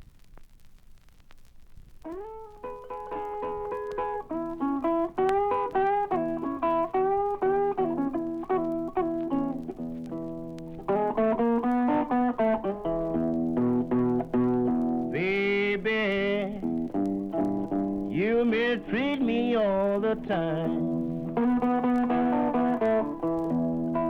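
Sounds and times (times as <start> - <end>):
solo blues guitar: 2.0 - 24.0.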